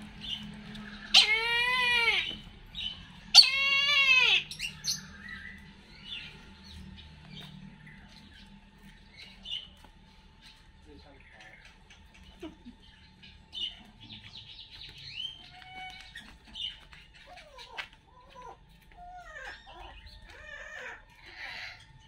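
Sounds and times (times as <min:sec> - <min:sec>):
birds chirping and whistling: 0:00.0 - 0:22.0.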